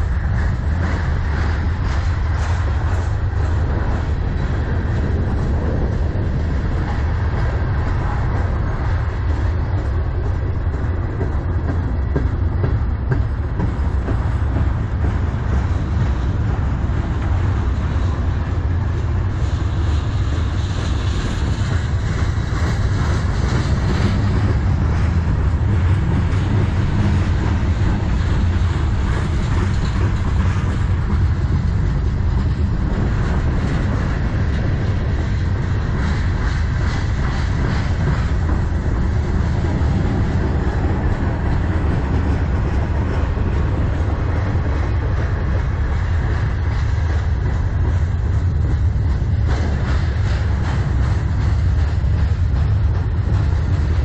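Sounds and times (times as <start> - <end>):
steel wheels rolling on rails: 0.0 - 54.0
wheels clicking over rail joints: 0.0 - 54.0.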